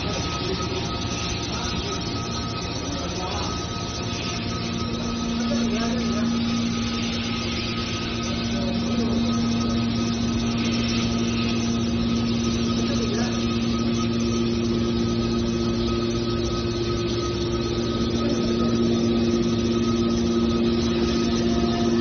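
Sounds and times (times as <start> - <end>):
high steady whine: 0.0 - 22.0
hydraulic power unit droning hum: 0.0 - 22.0.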